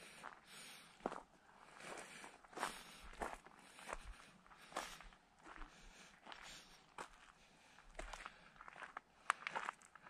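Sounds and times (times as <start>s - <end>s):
footsteps on gravel: 0.0s - 10.0s.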